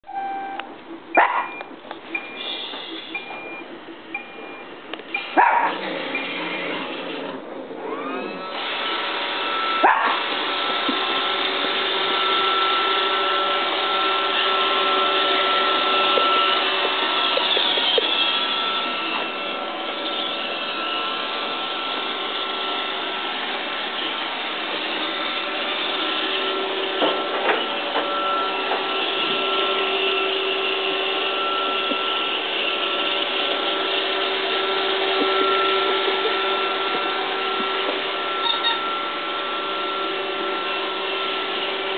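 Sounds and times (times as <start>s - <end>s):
robot vacuum whirring hum: 5.0s - 41.9s.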